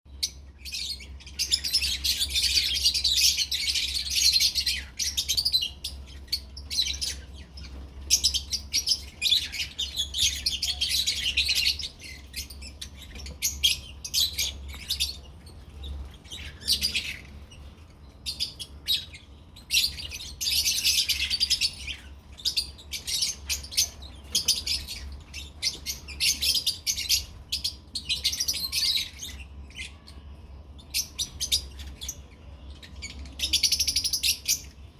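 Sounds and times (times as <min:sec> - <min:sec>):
lovebirds chirping: 0:00.1 - 0:34.9
steady low hum: 0:00.1 - 0:34.9.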